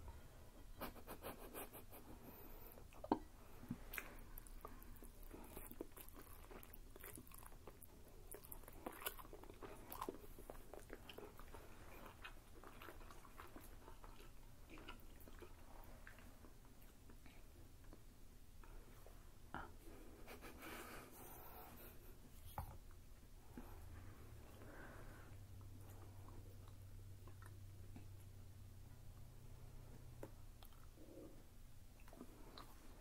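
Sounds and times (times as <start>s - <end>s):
people chewing: 0.8s - 22.3s, 24.5s - 33.0s.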